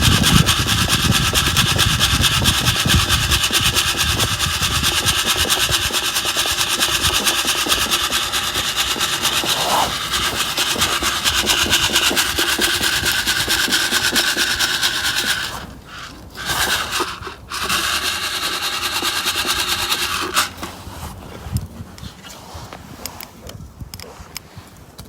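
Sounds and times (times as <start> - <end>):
coffee beans rattling in a cup: 0.0 - 20.9.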